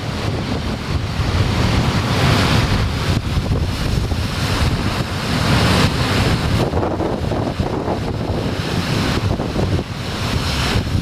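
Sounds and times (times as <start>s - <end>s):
storm surf breaking against cliffs: 0.0s - 11.0s
wind buffeting microphone: 0.0s - 11.0s.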